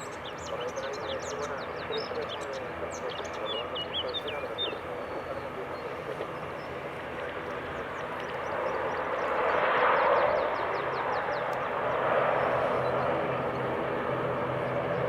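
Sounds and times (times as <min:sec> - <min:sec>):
aircraft engine rushing: 0:00.0 - 0:15.0.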